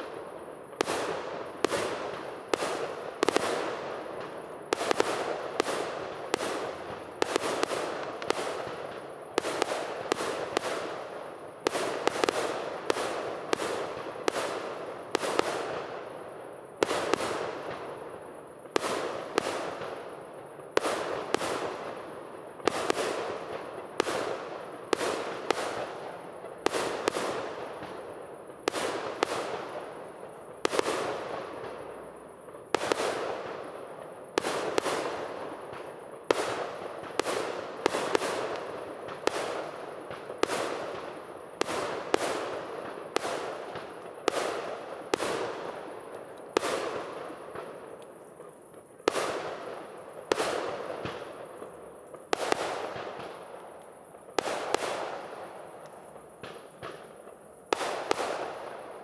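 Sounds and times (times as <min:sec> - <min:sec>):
fireworks bursting with echo: 0:00.0 - 0:59.0.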